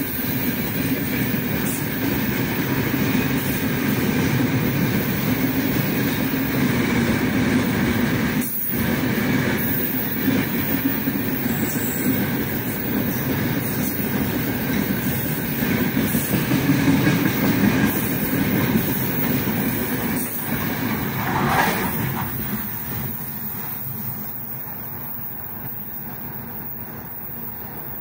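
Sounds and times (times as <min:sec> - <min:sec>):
freight train wheels rumbling on rail: 0:00.0 - 0:28.0.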